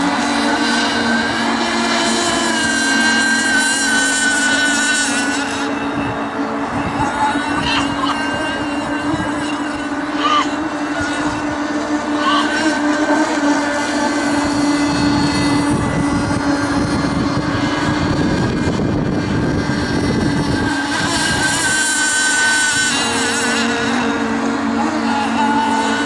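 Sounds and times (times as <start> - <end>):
model boat engines whining: 0.0 - 26.0.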